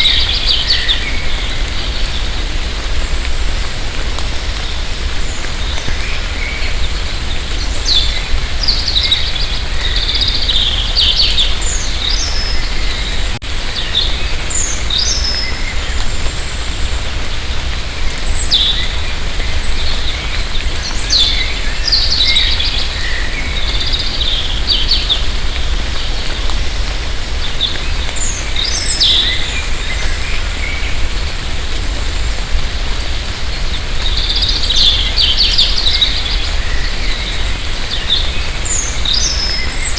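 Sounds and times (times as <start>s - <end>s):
birds chirping and trilling: 0.0s - 3.2s, 4.5s - 16.8s, 18.2s - 31.4s, 32.2s - 39.9s
light rain falling: 0.0s - 39.9s.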